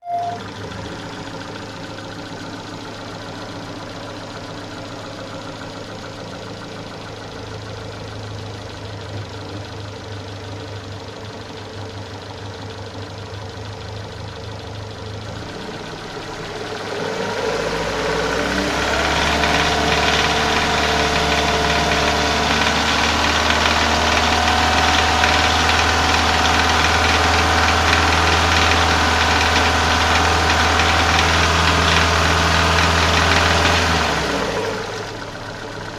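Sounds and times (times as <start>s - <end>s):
car engine idling and revving: 0.0s - 35.9s
engine knocking: 0.1s - 35.9s.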